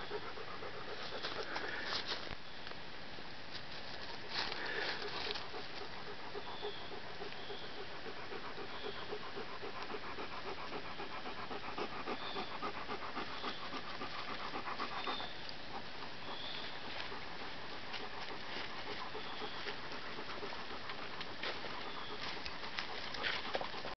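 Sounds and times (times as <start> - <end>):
dog panting: 0.0 - 2.2, 4.3 - 23.9.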